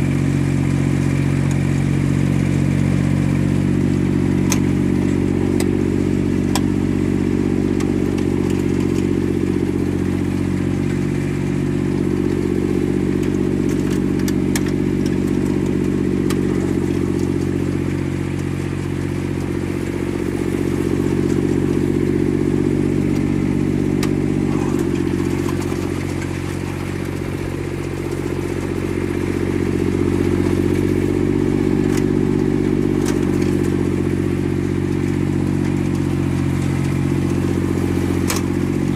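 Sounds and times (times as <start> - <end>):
snowblower diesel engine running: 0.0 - 38.9.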